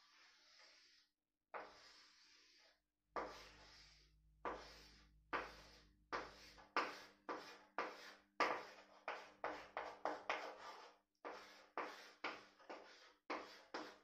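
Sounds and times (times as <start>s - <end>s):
chalk drawing on a blackboard: 0.0s - 14.0s.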